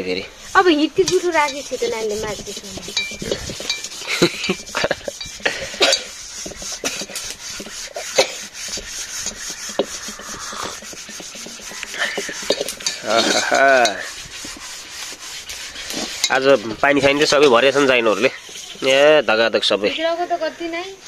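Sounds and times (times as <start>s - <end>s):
scouring pad scrubbing iron pan: 0.0s - 20.9s.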